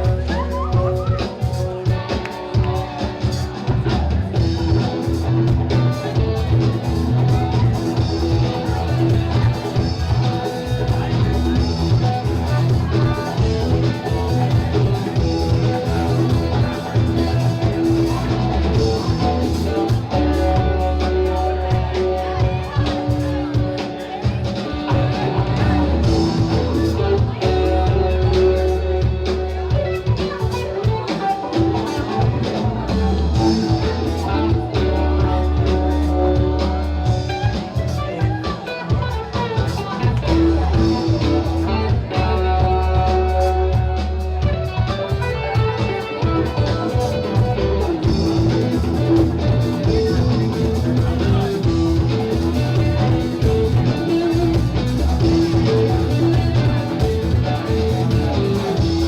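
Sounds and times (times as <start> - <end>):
guitar: 0.0 - 59.0.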